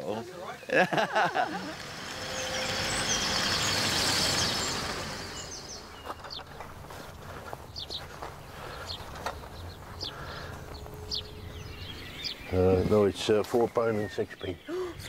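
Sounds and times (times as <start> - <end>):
small birds chirping: 0.0 - 15.0
vehicle passing: 0.4 - 13.3.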